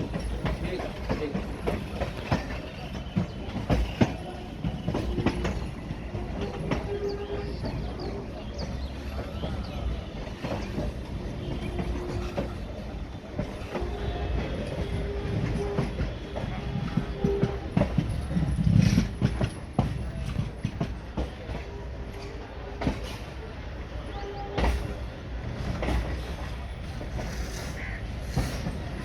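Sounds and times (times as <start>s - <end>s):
train rolling rumble: 0.0s - 29.0s
train wheels clattering: 0.0s - 29.0s.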